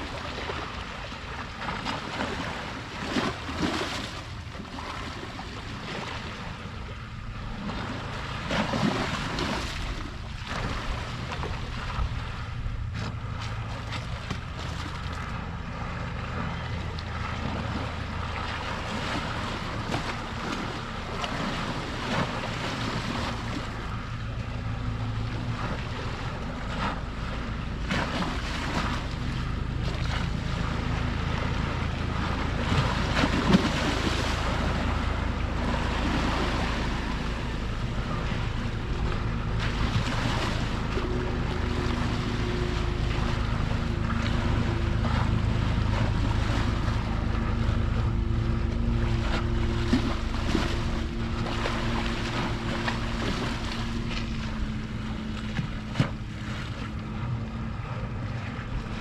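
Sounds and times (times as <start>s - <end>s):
low motor hum: 0.0s - 59.0s
small waves splashing: 0.0s - 59.0s.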